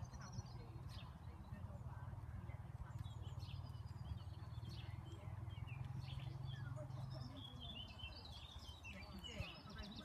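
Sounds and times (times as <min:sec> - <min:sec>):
birds chirping and singing: 0:00.0 - 0:10.0.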